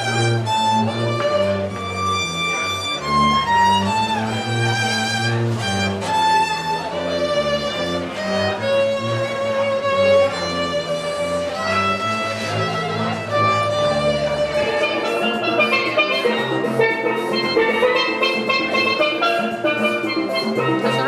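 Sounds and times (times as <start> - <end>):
low string accompaniment: 0.0 - 21.0
violin melody: 0.0 - 21.0.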